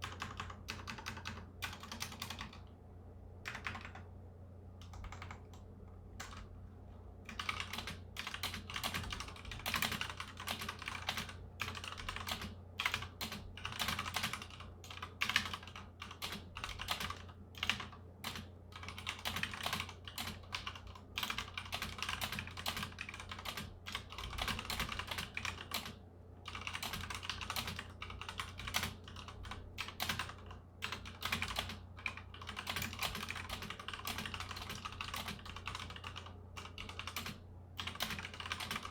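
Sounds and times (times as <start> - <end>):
mechanical keyboard typing: 0.0 - 2.7, 3.4 - 4.1, 4.8 - 5.6, 6.2 - 6.5, 7.3 - 38.9.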